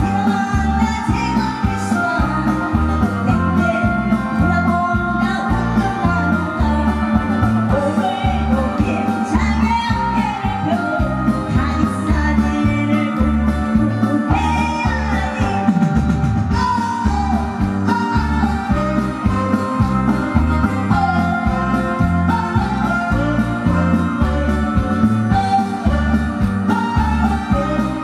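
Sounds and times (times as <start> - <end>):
instrumental music with bass beat: 0.0 - 28.0
woman singing into microphone: 0.0 - 28.0.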